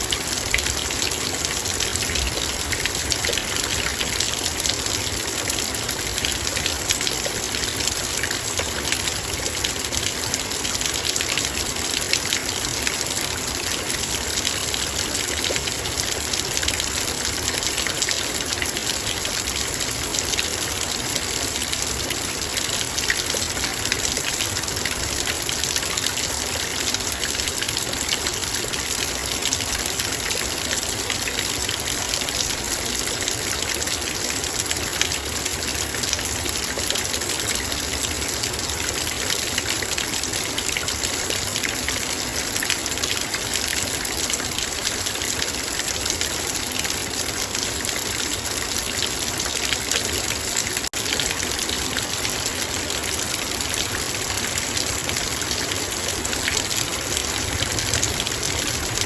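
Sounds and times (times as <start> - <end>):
heavy rain: 0.0 - 59.0
raindrops hitting metal bowl: 0.0 - 59.0.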